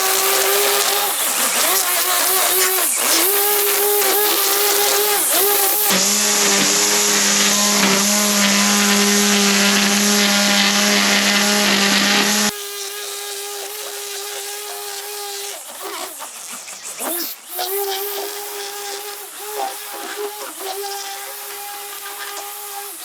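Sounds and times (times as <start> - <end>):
small power tool engine running: 0.0 - 23.0.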